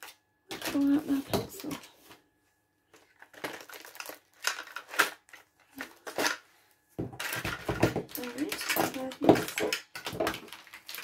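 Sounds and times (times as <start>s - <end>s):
hands rummaging through supplies: 0.0s - 2.2s, 2.9s - 11.0s.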